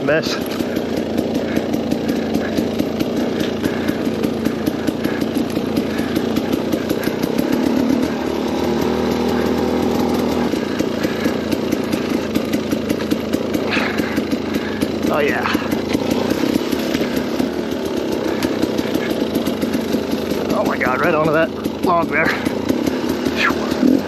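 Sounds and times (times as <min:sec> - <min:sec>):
two-stroke motorcycle engine buzzing: 0:00.0 - 0:24.0.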